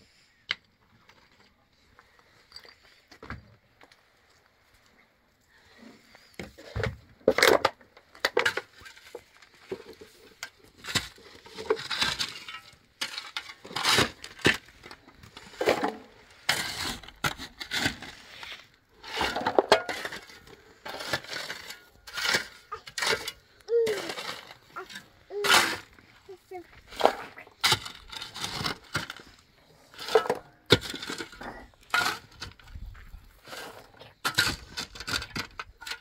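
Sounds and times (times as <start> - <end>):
hard objects knocking and scraping: 6.4 - 36.0.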